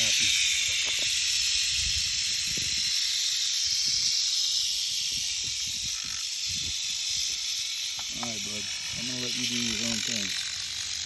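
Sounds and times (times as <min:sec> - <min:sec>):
rattlesnake rattling: 0:00.0 - 0:11.0.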